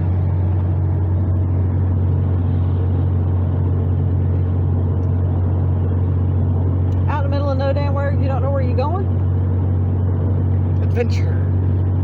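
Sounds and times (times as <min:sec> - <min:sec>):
vehicle engine and tyres drone: 0:00.0 - 0:12.0.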